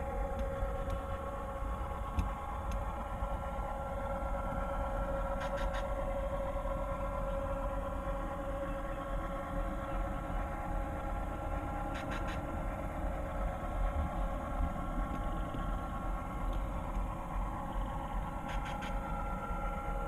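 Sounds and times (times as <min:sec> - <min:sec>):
model train diesel engine drone: 0:00.0 - 0:20.0.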